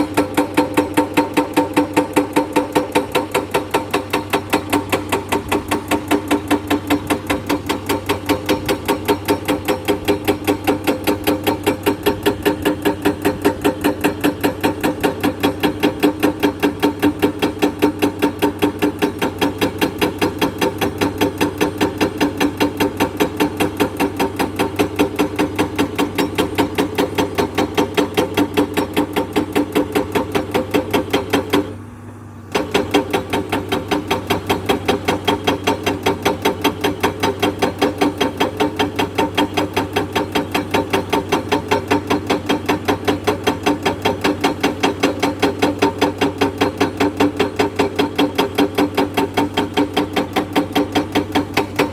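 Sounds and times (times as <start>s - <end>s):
hydraulic breaker hammering rock: 0.0s - 31.8s, 32.5s - 51.9s.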